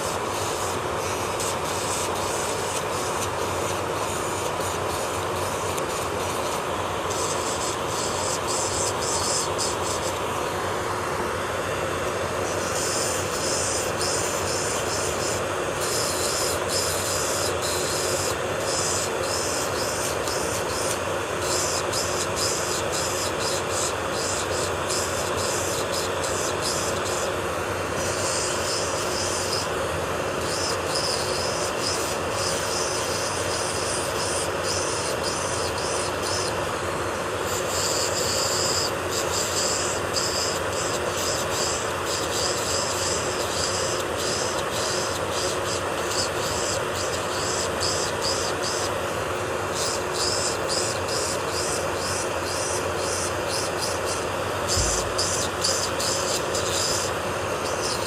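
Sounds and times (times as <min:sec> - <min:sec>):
electric nail drill grinding: 0:00.0 - 0:58.0.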